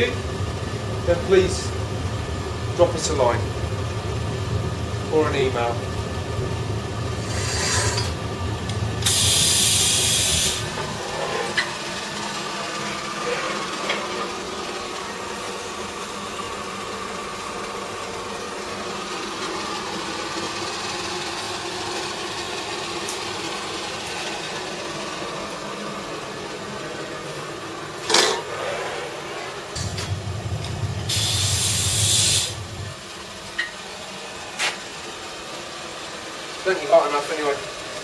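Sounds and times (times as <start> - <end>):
glassblowing equipment humming: 0.0 - 38.0.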